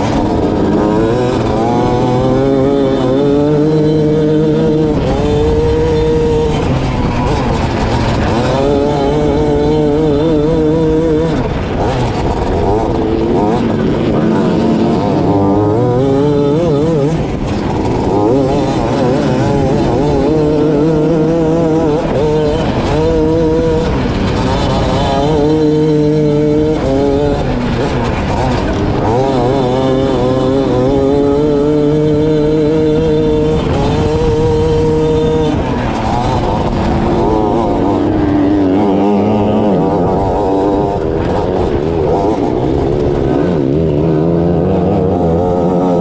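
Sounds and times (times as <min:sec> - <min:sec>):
dirt rumble: 0:00.0 - 0:46.0
kart engine revving: 0:00.0 - 0:46.0
wind: 0:00.0 - 0:46.0.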